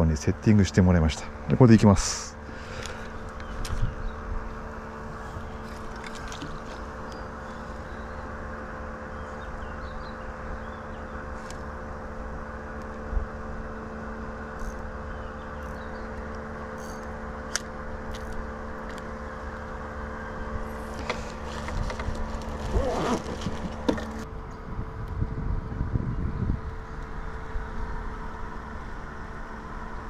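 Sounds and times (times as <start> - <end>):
road traffic hum: 0.0 - 25.8.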